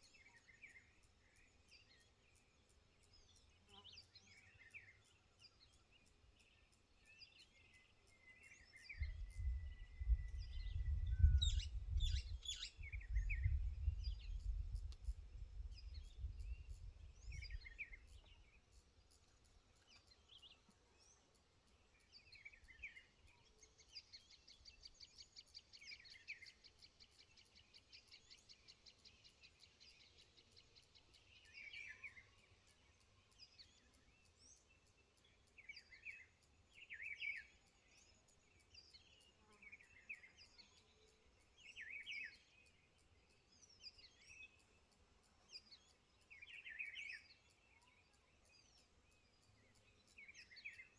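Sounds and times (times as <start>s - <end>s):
birds chirping: 0.4s - 50.9s.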